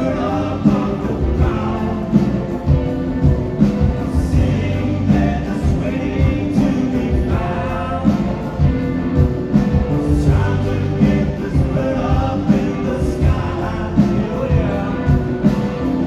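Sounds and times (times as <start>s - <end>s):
bass-heavy beat: 0.0s - 16.0s
voices singing together: 0.0s - 16.0s.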